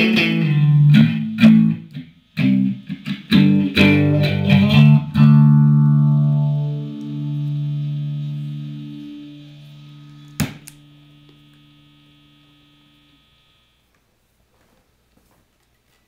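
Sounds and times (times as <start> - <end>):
phased electric guitar chord: 0.0 - 13.8.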